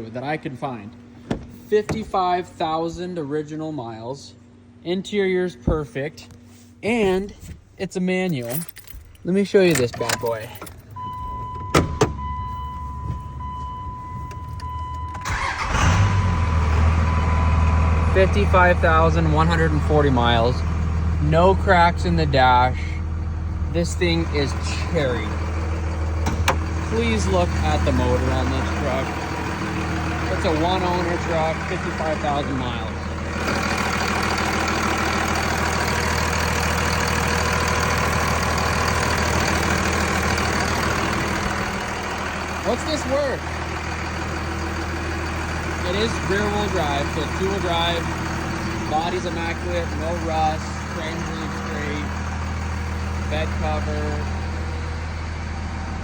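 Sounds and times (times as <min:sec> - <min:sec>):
diesel engine cranking and idling: 0:00.0 - 0:56.0.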